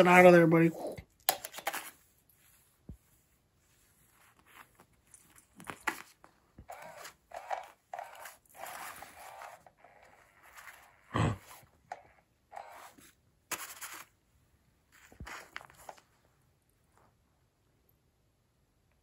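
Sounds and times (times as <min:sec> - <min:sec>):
fabric rustling and scraping: 0:01.6 - 0:17.2.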